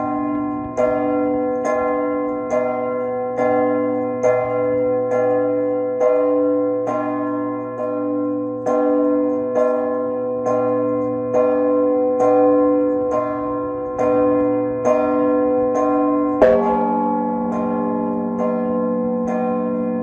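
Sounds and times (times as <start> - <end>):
large church bells ringing: 0.0 - 20.0.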